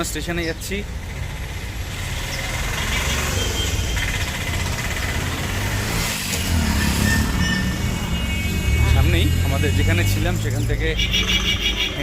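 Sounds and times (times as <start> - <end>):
road noise: 0.0 - 12.0
vehicle engine rumbling: 0.0 - 12.0.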